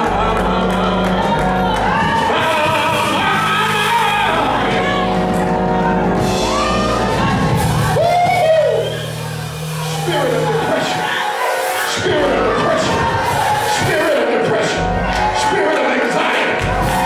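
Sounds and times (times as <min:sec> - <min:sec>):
congregation shouting: 0:00.0 - 0:17.0
gospel singing: 0:00.0 - 0:17.0.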